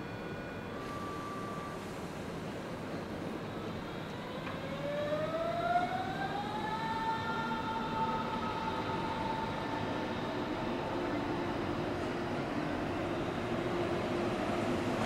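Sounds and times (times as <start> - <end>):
electric train drive whine: 0.0 - 15.0.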